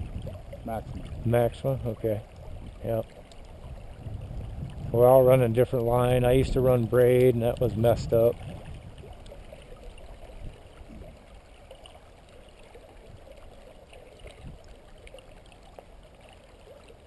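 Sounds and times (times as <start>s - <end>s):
river water flowing: 0.0s - 17.0s
small water splashes: 0.0s - 17.0s.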